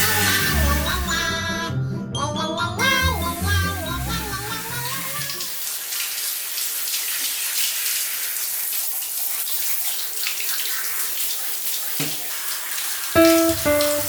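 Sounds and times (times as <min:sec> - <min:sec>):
water spraying and splashing: 0:00.0 - 0:01.0, 0:03.3 - 0:14.0.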